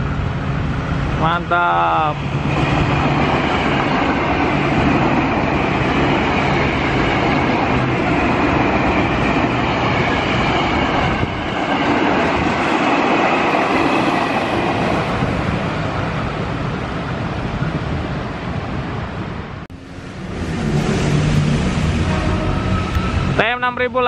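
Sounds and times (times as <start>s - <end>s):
electric train passing: 0.0s - 24.0s
second train passing: 0.0s - 24.0s.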